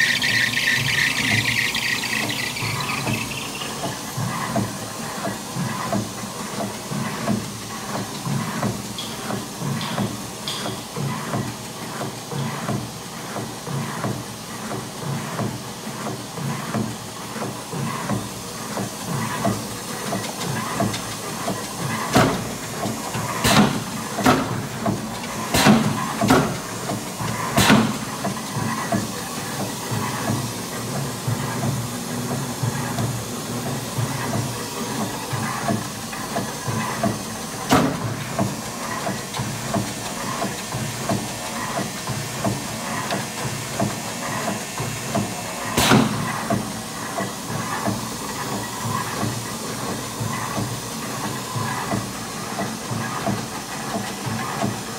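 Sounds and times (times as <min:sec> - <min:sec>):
punch press humming and clattering: 0:00.0 - 0:54.9.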